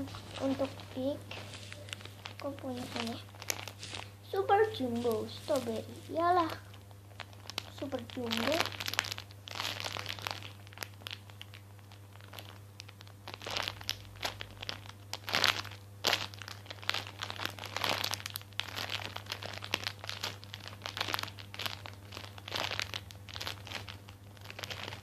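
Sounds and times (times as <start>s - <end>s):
squishy toy crinkling and rustling: 0.0s - 25.0s
steady low hum: 0.0s - 25.0s.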